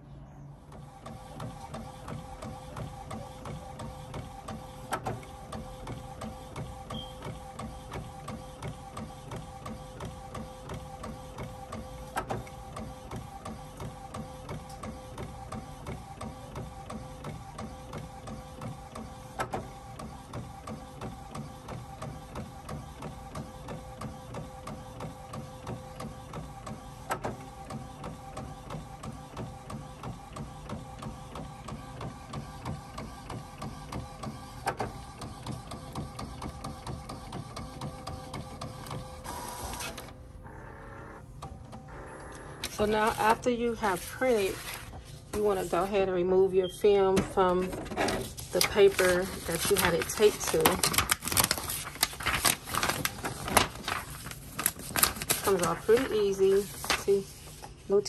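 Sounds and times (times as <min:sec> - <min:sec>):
inkjet printer carriage whine: 0:00.5 - 0:58.0.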